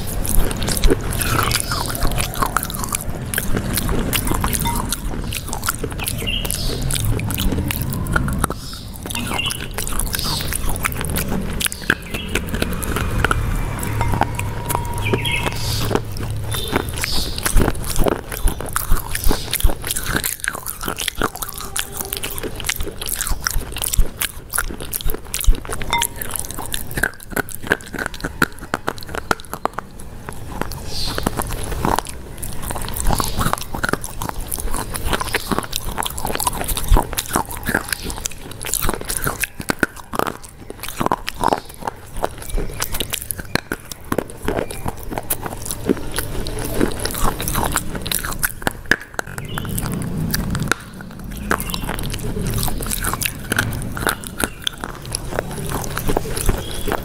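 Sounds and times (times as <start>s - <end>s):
chewing crunchy food: 0.0s - 57.0s
mouth clicks: 0.0s - 57.0s.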